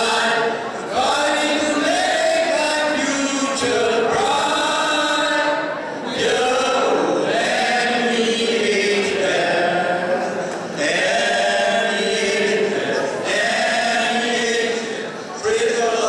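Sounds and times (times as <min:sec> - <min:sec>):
group of voices singing: 0:00.0 - 0:16.0.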